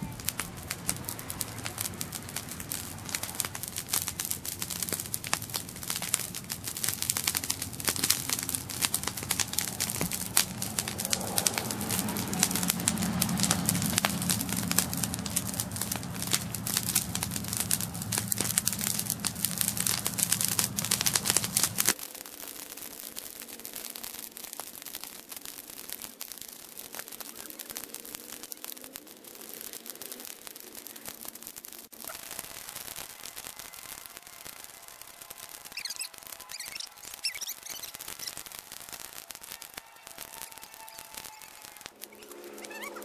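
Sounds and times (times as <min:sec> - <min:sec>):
fire crackling and popping: 0:00.0 - 0:43.0
low rumble of flames: 0:00.0 - 0:43.0.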